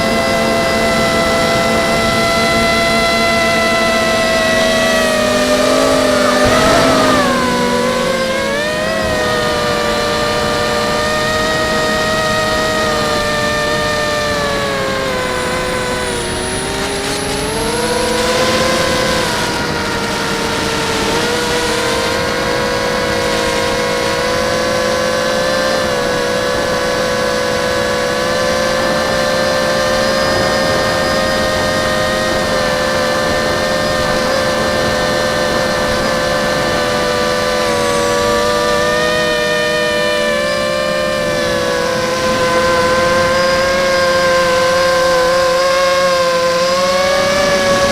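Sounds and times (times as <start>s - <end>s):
drone propellers whining: 0.0s - 47.9s.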